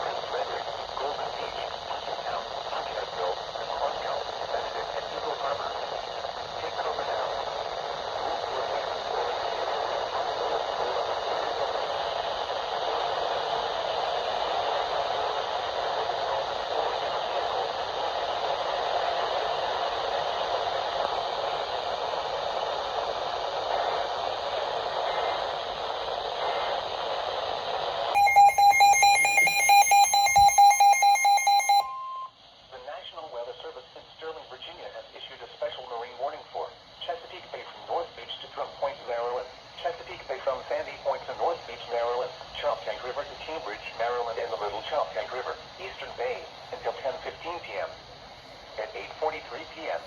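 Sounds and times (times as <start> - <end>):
radio static hiss: 0.0 - 31.8, 32.8 - 50.0.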